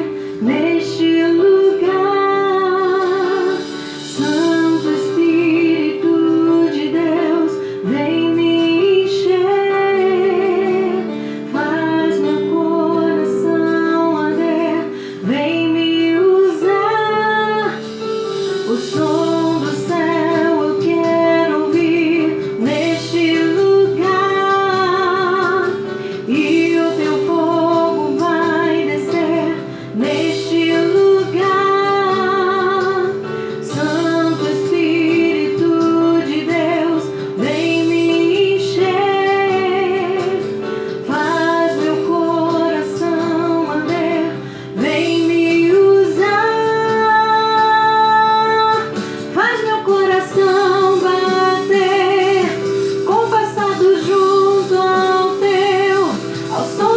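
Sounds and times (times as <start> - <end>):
guitar accompaniment: 0.0 - 56.9
woman singing with vibrato: 0.0 - 56.9.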